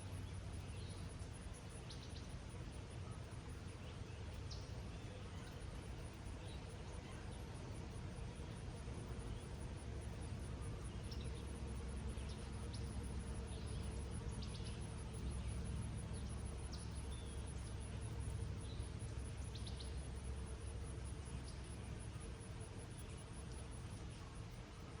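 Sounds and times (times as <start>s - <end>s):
light rain hissing: 0.0s - 25.0s.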